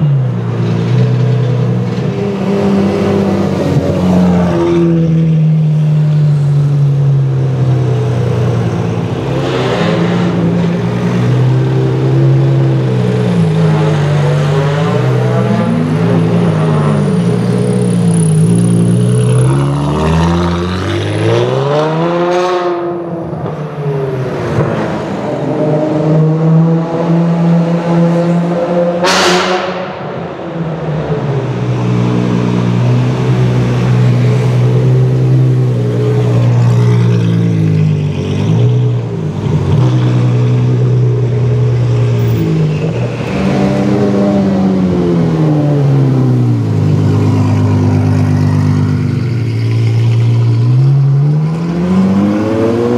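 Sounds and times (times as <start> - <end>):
sports car engine idling and revving: 0.0 - 52.9.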